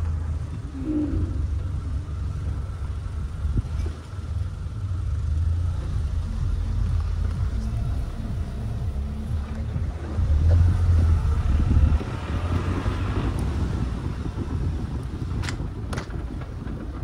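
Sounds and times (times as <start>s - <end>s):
wind buffeting microphone: 0.0s - 5.3s, 5.9s - 17.0s
car rumbling on dirt track: 0.0s - 17.0s.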